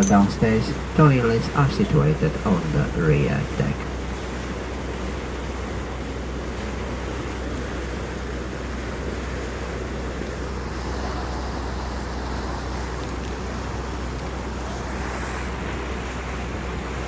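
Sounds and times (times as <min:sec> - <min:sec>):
boat engine drone: 0:00.0 - 0:17.0
water rushing: 0:00.0 - 0:17.0
wind: 0:00.0 - 0:17.0.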